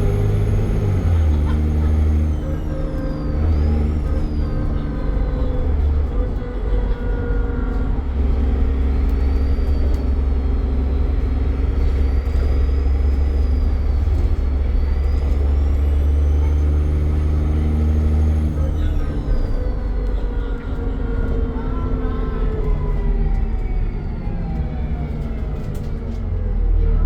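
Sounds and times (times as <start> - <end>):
bus engine pulling under load: 0.0 - 27.0.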